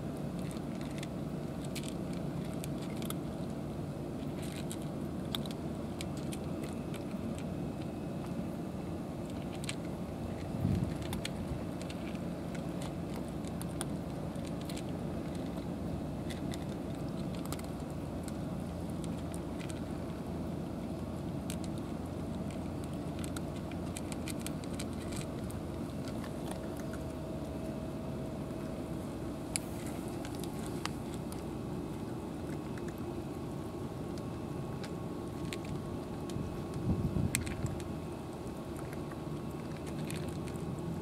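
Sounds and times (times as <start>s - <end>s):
cats crunching dry kibble: 0.0s - 41.0s
steady low rumble: 0.0s - 41.0s.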